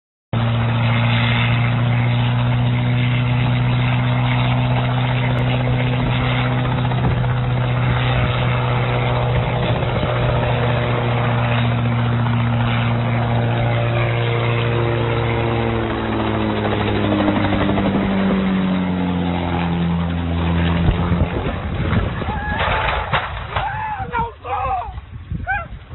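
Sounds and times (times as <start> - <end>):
helicopter engine and rotor: 0.4 - 23.2.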